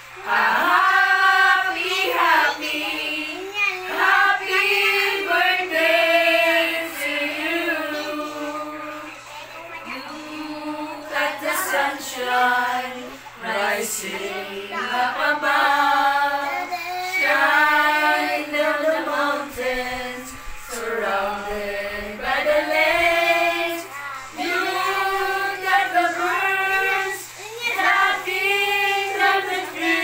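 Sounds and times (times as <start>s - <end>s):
group singing together: 0.0s - 30.0s.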